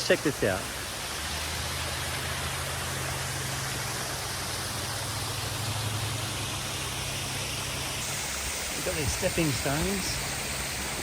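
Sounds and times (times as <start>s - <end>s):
water rushing in a stream: 0.0s - 11.0s.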